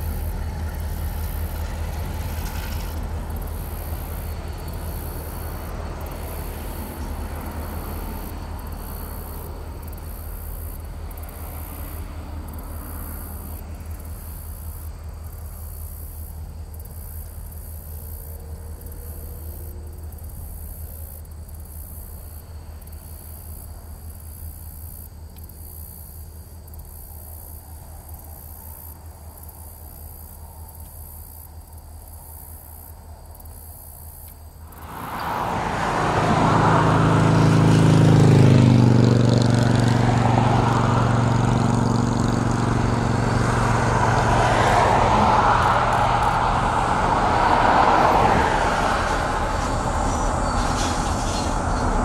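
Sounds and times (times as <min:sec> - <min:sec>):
diesel locomotive engines running: 0:00.0 - 0:25.6, 0:26.3 - 0:52.0
insects chirping: 0:00.0 - 0:52.0.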